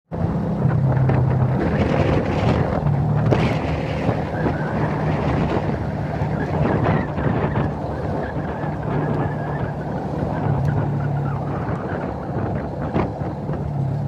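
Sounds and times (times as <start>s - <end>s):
road noise: 0.1s - 14.0s
truck diesel engine: 0.1s - 14.0s.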